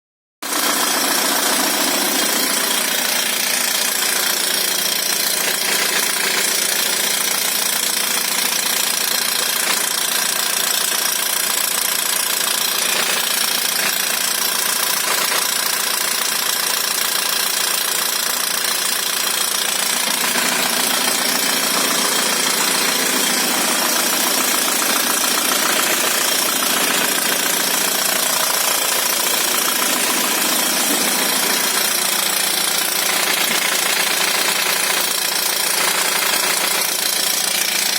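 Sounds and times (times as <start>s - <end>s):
diesel engine idling with knock: 0.5s - 37.9s.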